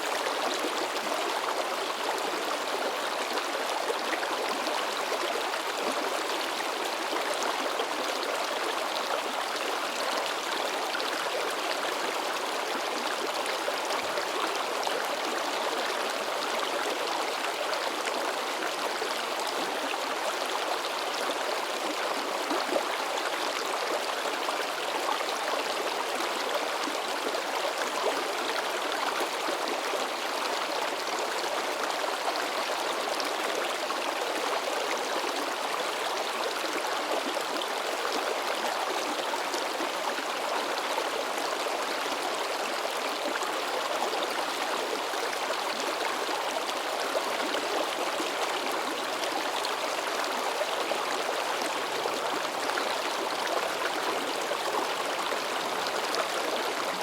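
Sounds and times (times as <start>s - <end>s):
forest stream babbling: 0.0s - 57.0s.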